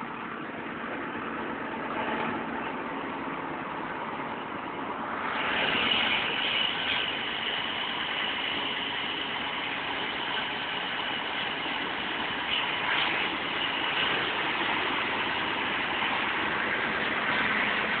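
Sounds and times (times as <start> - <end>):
vehicle engines idling: 0.0 - 18.0.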